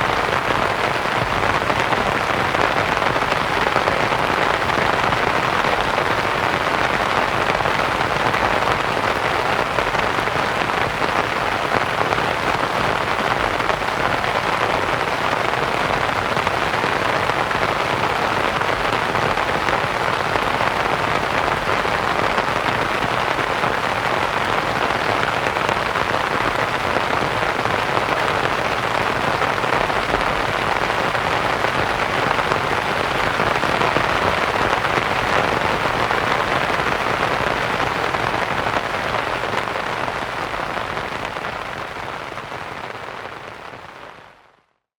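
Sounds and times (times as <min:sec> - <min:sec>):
white-noise hiss: 0:00.0 - 0:44.4
rain pattering on canvas tent: 0:00.0 - 0:44.6.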